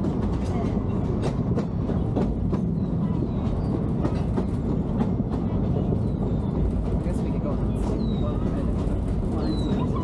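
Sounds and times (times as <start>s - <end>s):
train car rumbling on track: 0.0s - 10.0s
wheels clicking over rails: 0.0s - 10.0s.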